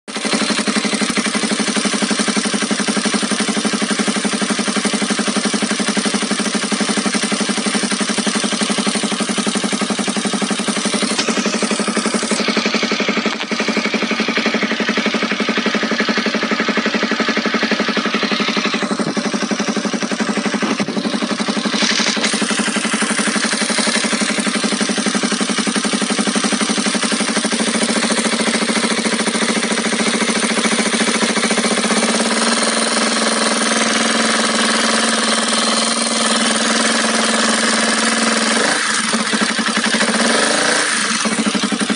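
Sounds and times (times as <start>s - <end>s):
fast mechanical clatter: 0.1s - 41.9s
motorcycle engine idling: 0.1s - 41.9s.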